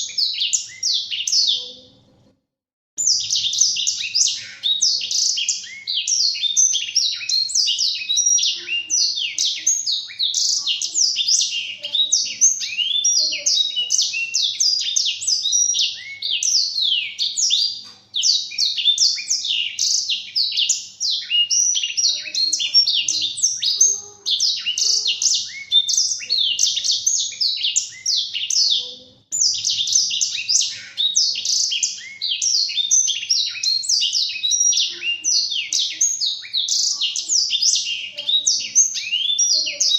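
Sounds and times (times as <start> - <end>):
canary singing: 0.0 - 2.3, 3.0 - 39.9.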